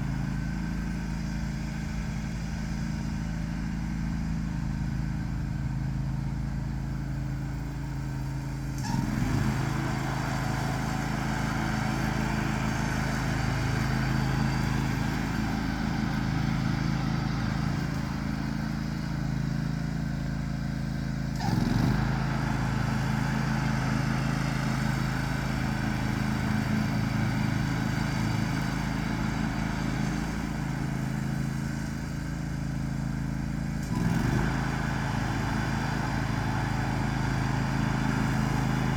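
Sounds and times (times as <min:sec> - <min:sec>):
riding lawn mower engine droning: 0:00.0 - 0:38.9.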